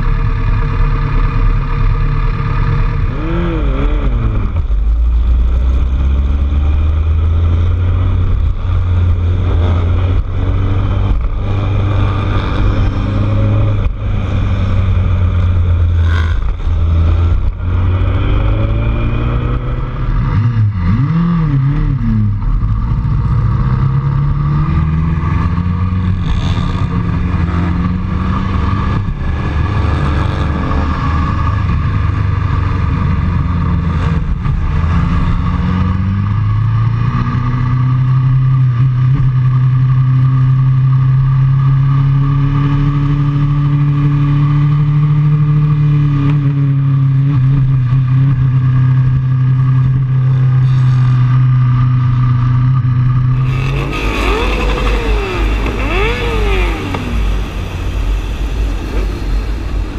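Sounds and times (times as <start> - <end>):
vehicle engine running: 0.0 - 35.4, 46.4 - 59.9
road and wind noise: 0.0 - 59.9.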